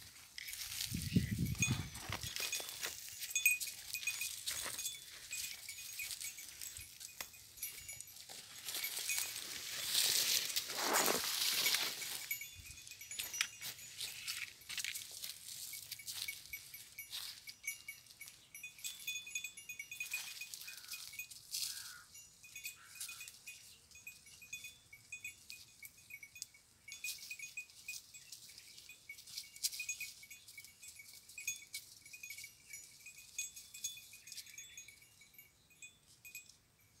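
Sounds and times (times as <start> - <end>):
goat bells tinkling: 0.0 - 37.0.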